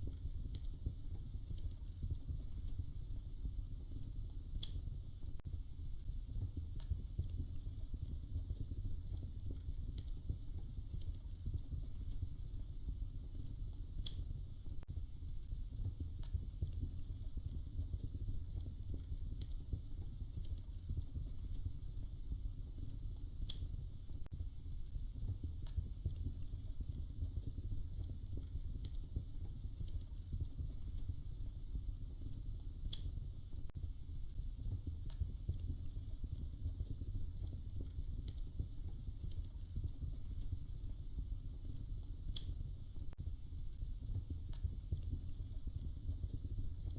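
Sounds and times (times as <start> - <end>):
fire popping and snapping: 0.0 - 46.9
wood fire crackling: 0.0 - 46.9.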